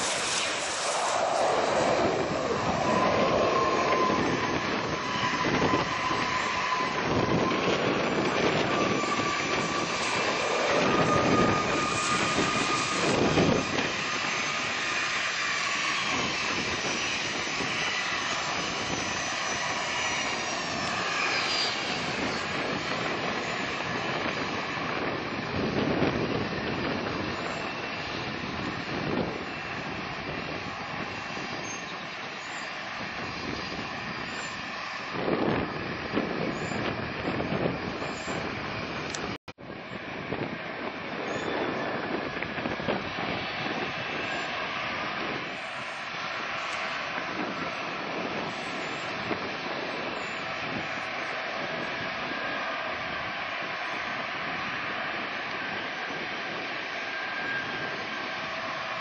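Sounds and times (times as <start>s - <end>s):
jet engines whining and roaring: 0.0s - 59.0s.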